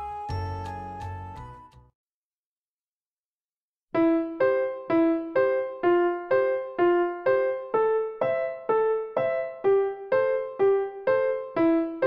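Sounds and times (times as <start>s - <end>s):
piano-like keyboard chords: 0.0s - 1.7s, 4.0s - 12.0s.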